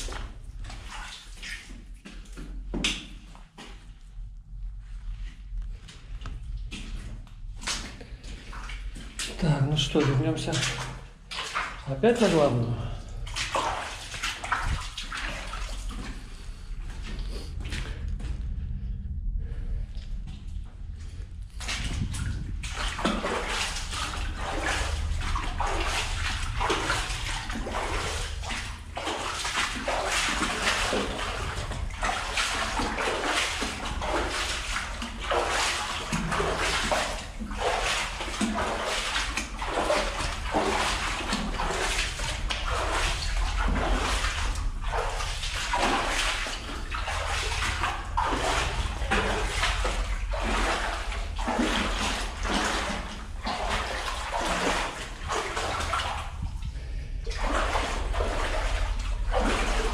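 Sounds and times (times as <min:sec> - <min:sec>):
footsteps wading in water: 0:00.0 - 0:59.9.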